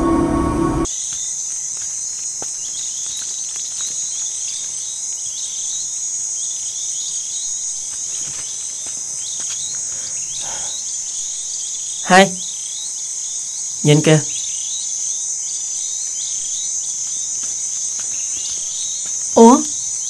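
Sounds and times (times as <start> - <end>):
insects trilling: 0.8 - 20.0.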